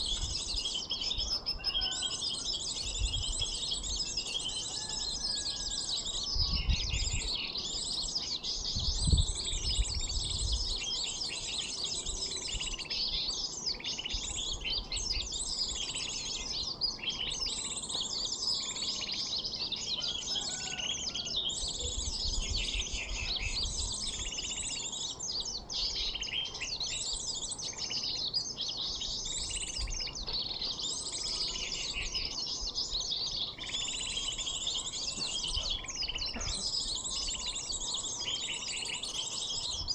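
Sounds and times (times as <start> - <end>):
sunbirds chirping and trilling: 0.0 - 39.9.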